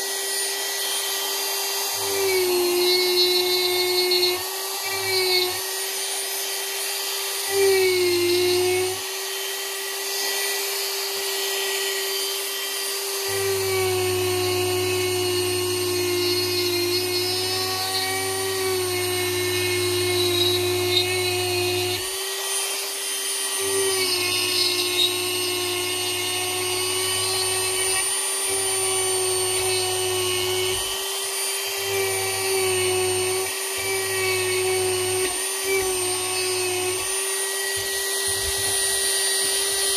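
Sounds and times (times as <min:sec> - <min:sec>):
rotary tool carving wood: 0:00.0 - 0:39.9.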